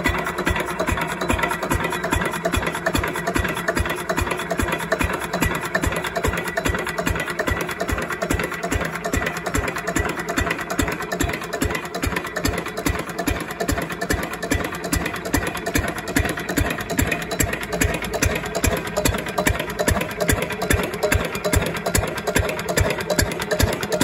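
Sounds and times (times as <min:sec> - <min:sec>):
diesel engine running at low speed: 0:00.0 - 0:24.0.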